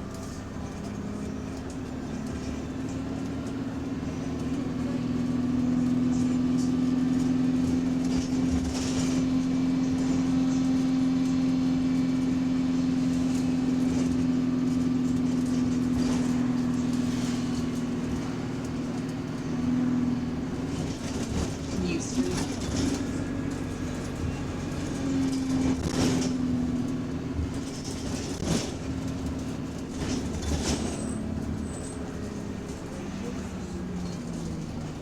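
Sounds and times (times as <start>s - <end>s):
bus diesel engine hum: 0.0s - 35.0s.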